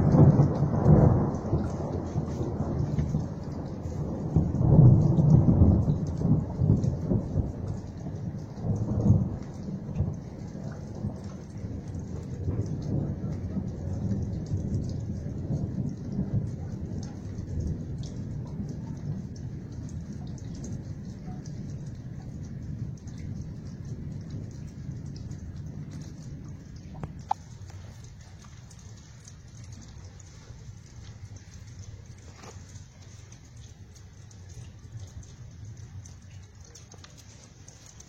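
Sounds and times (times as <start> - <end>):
low rolling thunder: 0.0 - 38.0
rain falling: 0.0 - 38.0.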